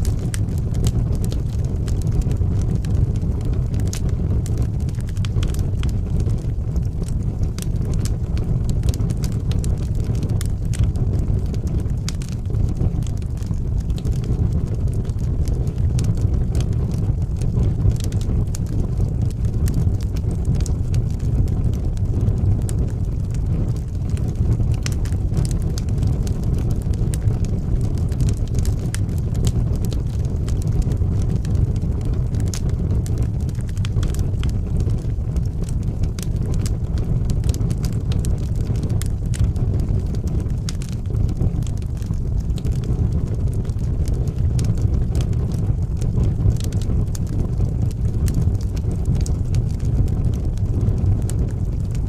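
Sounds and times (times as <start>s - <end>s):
fire crackles and pops: 0.0s - 52.0s
fire flames rumbling: 0.0s - 52.0s.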